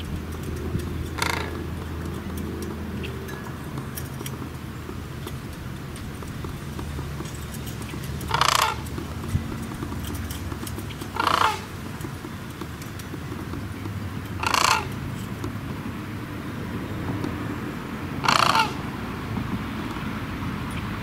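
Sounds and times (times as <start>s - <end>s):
crane calling: 0.0s - 20.1s.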